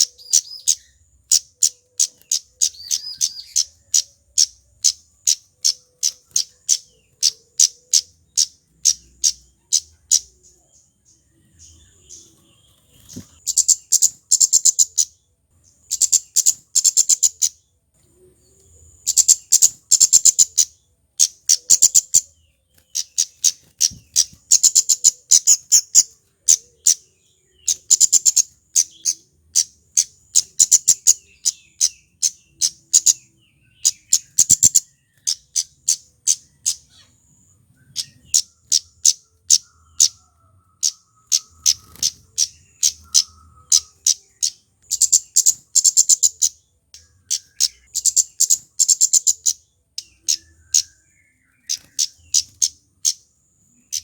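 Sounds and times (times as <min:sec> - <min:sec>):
bird high-pitched chips: 0:00.0 - 0:10.8, 0:11.6 - 0:15.2, 0:15.8 - 0:17.6, 0:18.5 - 0:37.2, 0:37.8 - 0:54.0.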